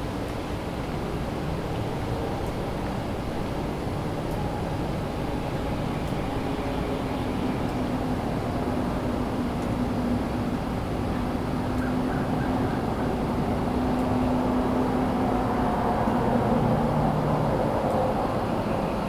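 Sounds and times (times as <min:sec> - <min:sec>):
distant highway traffic rumble: 0:00.3 - 0:19.0.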